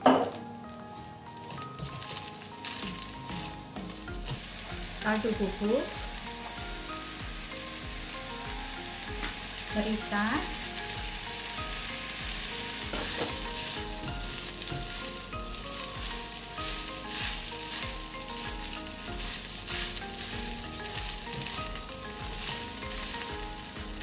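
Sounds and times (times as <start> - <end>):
rice sizzling in a wok: 0.0 - 24.0.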